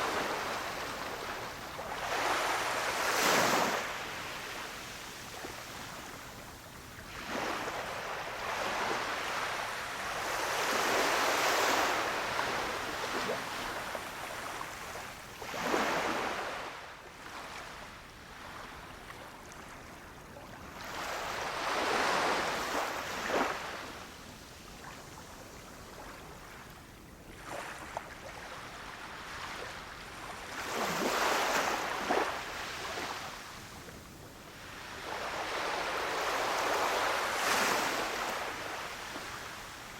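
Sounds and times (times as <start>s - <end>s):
small waves washing on sand: 0.0s - 39.9s.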